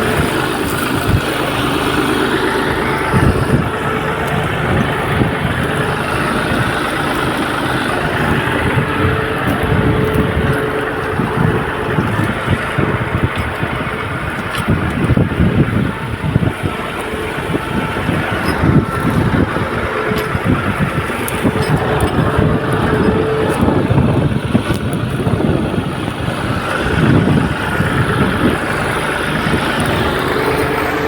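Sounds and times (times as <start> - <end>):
tractor engine rumbling: 0.0 - 31.0.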